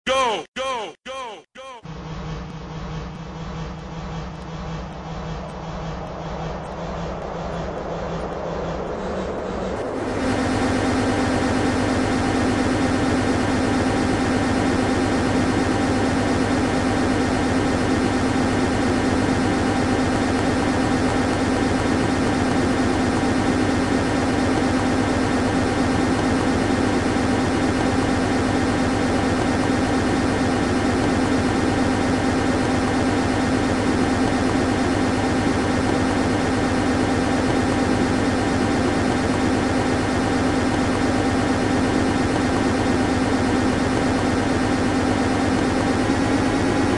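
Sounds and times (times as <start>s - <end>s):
aircraft engines droning: 1.9s - 46.9s.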